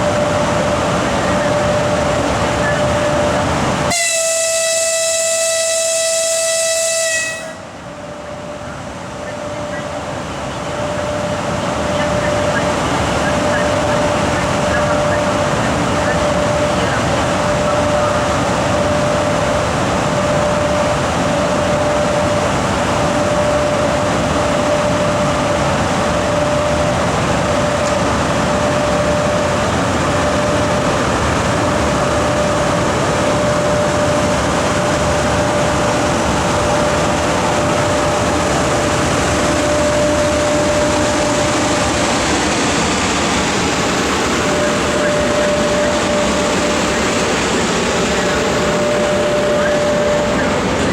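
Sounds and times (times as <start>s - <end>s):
train running gear rumble: 0.0s - 50.9s
constant hum: 8.6s - 50.9s.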